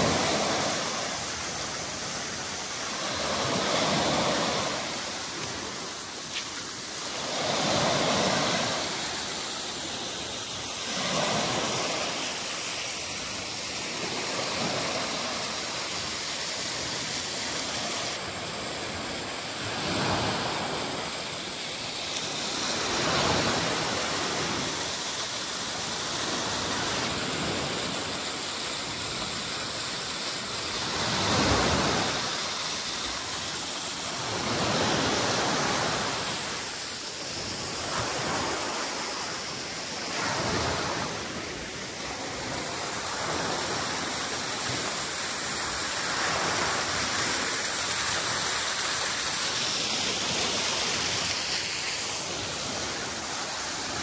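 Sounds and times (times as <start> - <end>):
waves washing onto a beach: 0.0 - 54.0.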